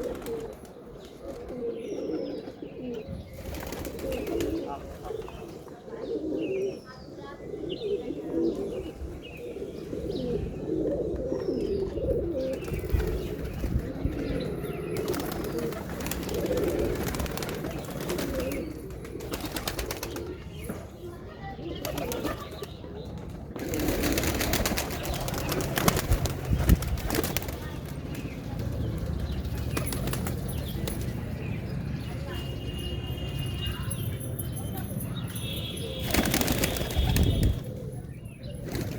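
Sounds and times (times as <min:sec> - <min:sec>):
pigeons cooing: 0:00.0 - 0:20.6, 0:21.5 - 0:31.5, 0:35.8 - 0:38.9.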